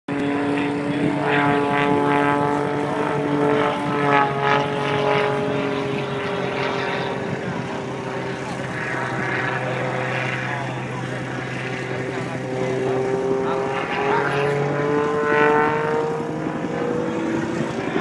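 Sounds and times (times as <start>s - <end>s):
propeller airplane engine droning: 0.1s - 18.0s.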